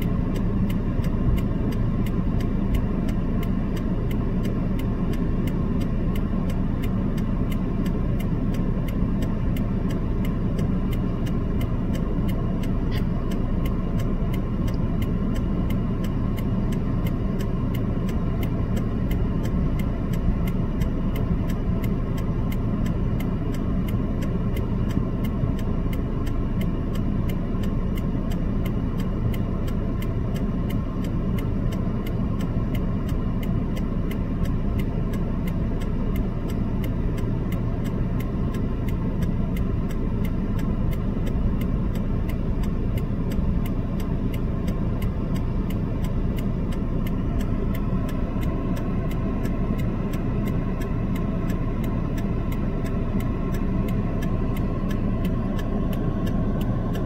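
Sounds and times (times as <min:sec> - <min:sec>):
car engine idling: 0:00.0 - 0:57.0
even engine ticking: 0:00.0 - 0:57.0.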